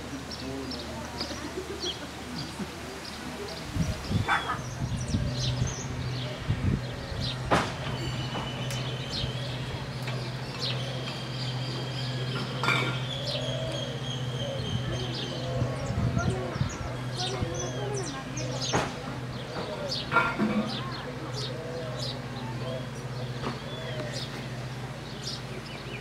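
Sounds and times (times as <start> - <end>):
birds chirping: 0.0 - 26.0
outdoor ambience: 0.0 - 26.0.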